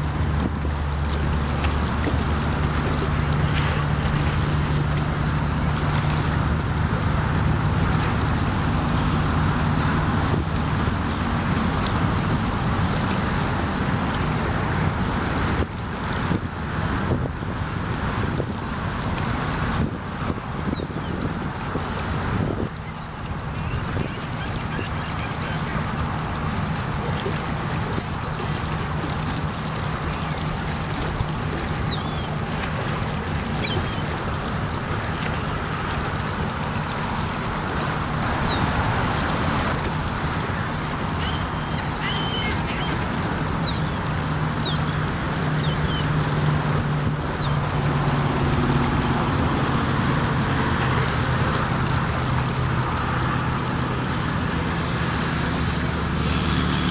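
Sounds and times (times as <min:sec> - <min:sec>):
water: 0:00.0 - 0:56.9
wind: 0:00.0 - 0:56.9.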